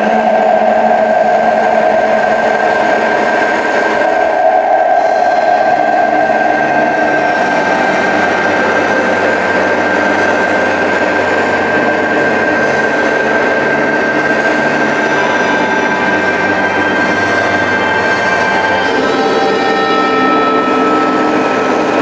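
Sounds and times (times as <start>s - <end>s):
high whine: 0.0s - 22.0s
mechanical engine noise: 0.0s - 22.0s.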